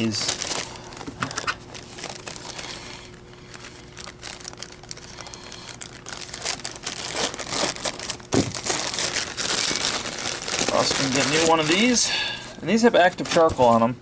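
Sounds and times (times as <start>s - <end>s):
paper bag crinkling and rustling: 0.0s - 12.2s.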